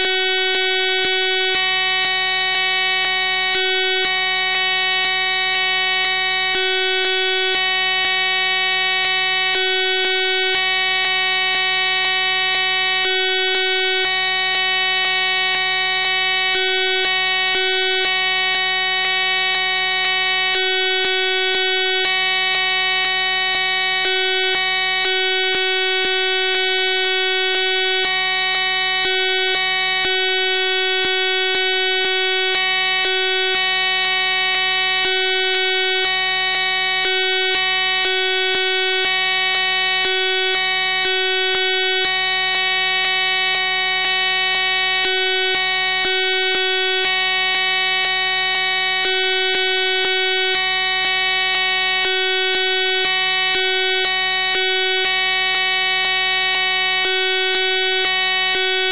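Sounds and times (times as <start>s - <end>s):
harsh electronic buzz: 0.0s - 30.2s, 31.0s - 58.9s.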